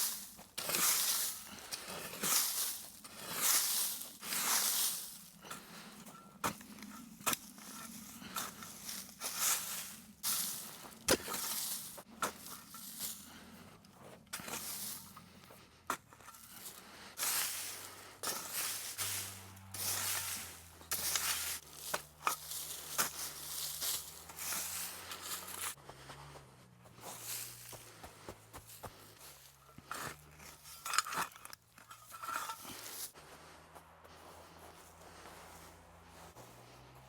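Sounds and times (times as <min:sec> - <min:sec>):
shovel scraping leaf litter: 0:00.0 - 0:13.4, 0:14.3 - 0:25.8, 0:27.0 - 0:28.0, 0:28.6 - 0:33.4
dry debris crunching: 0:00.0 - 0:37.0.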